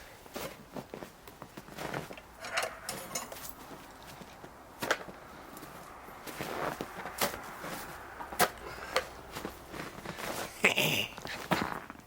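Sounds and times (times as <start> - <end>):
handling rustles: 0.3 - 10.6.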